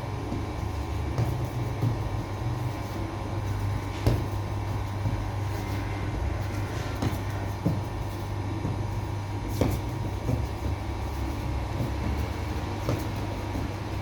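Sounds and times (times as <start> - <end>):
bakery machinery humming: 0.0 - 14.0.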